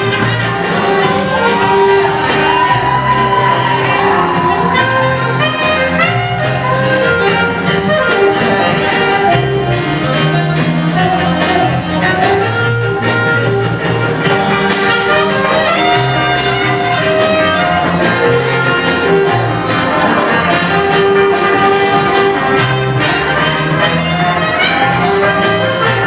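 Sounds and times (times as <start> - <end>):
live jazz band playing: 0.0 - 26.0
saxophone melody: 0.0 - 26.0.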